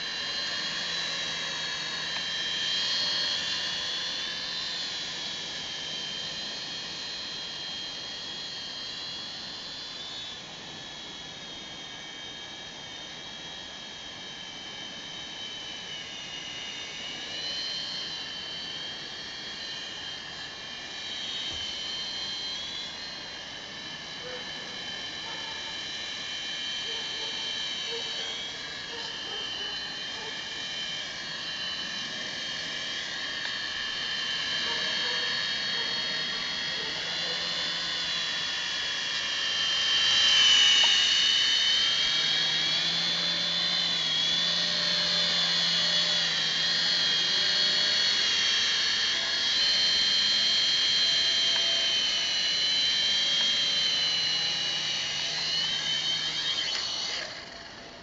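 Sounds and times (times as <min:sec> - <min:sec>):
toy helicopter motors whining: 0:00.0 - 0:58.0.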